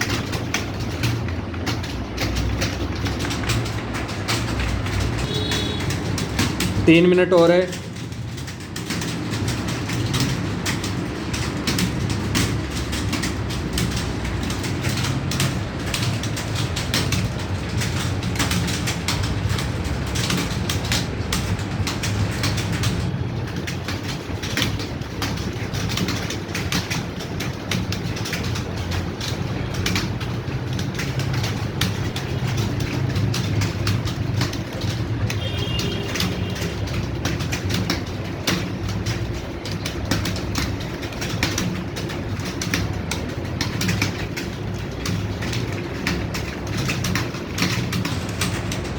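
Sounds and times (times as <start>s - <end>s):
keyboards typing clatter: 0.0s - 48.9s.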